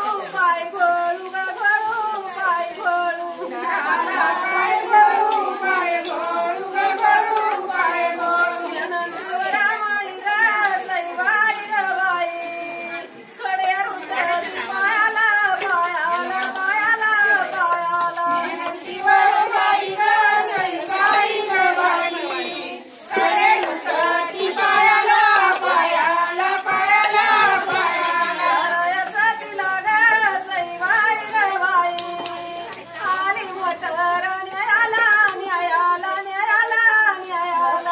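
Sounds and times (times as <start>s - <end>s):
women singing unaccompanied: 0.0s - 37.9s.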